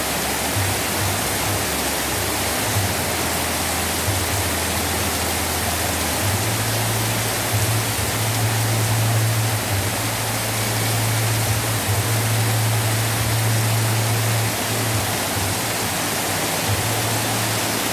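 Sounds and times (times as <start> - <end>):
heavy rain pouring: 0.0 - 17.9.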